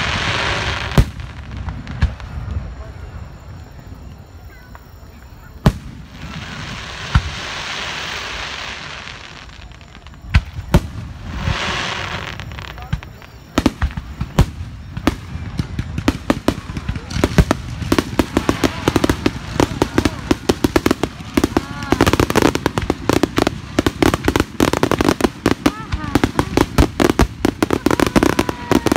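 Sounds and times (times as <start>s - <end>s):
fireworks crackling pops: 0.0s - 2.9s, 4.0s - 28.9s
fireworks sharp bangs: 0.0s - 2.9s, 5.5s - 28.9s
fireworks hissing: 0.0s - 3.5s, 5.4s - 28.9s.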